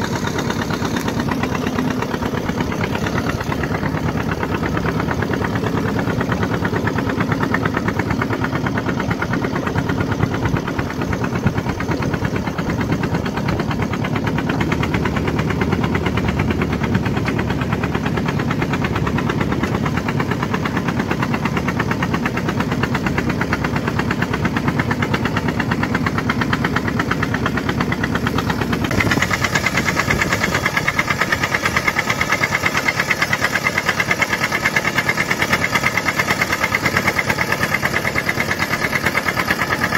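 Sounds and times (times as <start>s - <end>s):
tractor engine pulsing: 0.0s - 39.9s.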